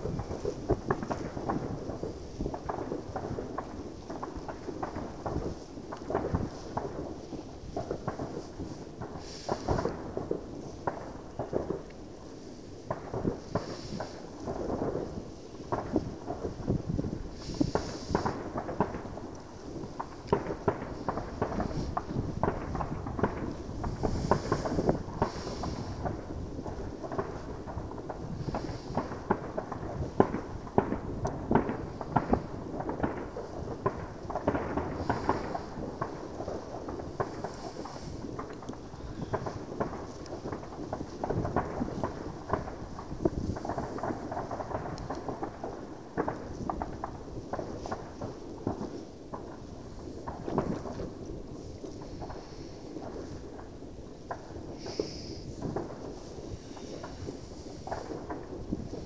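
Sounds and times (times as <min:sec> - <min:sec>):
distant fireworks bangs and pops: 0:00.0 - 0:59.0.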